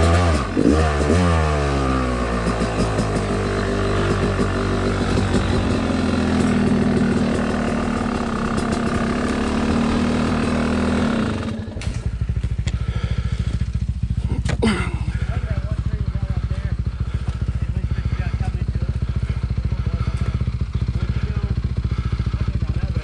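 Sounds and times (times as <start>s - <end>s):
dirt bike engine idling: 0.0s - 23.0s.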